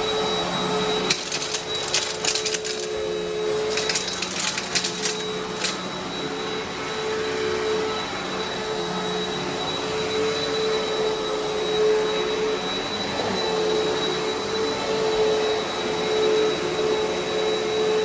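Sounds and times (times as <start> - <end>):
upright vacuum running over carpet: 0.0 - 18.0.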